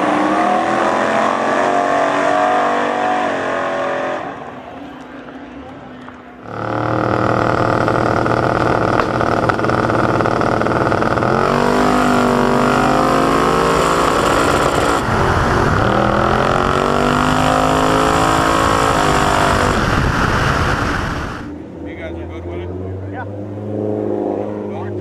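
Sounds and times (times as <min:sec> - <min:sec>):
drag car engine at full throttle: 0:00.0 - 0:04.6, 0:06.4 - 0:25.0.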